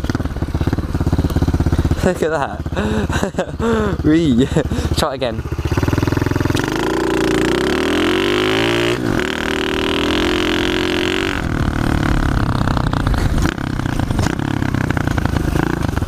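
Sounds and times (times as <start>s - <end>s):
pit bike engine revving: 0.0s - 16.0s.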